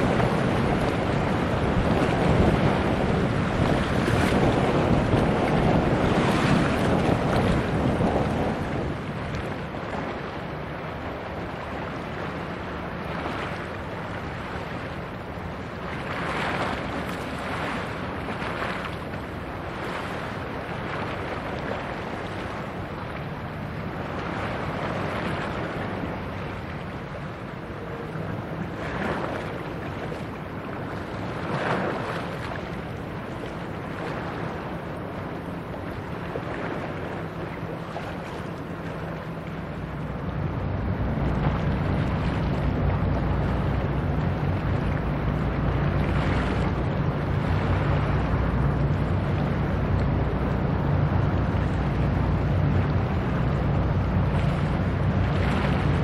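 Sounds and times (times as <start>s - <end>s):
ship diesel engine droning: 0.0s - 56.0s
water wash: 0.0s - 56.0s
wind buffeting microphone: 0.0s - 56.0s.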